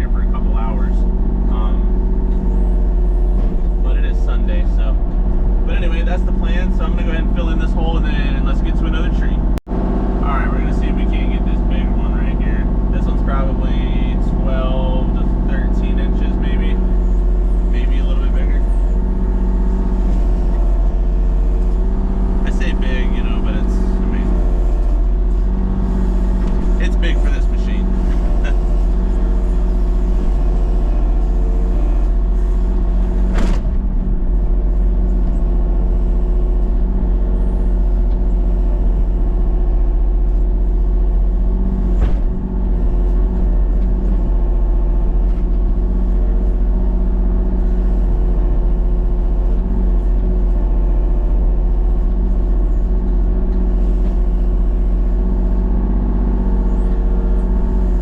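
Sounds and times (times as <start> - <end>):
machine engine running: 0.0 - 58.0.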